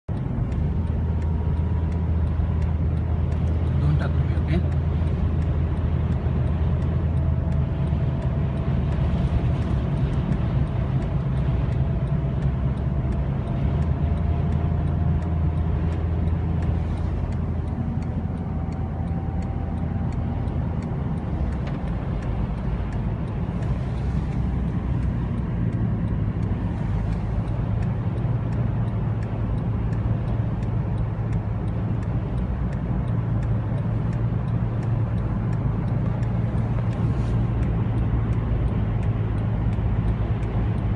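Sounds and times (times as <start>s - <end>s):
faint regular ticking: 0.0s - 40.9s
road and engine rumble: 0.0s - 40.9s.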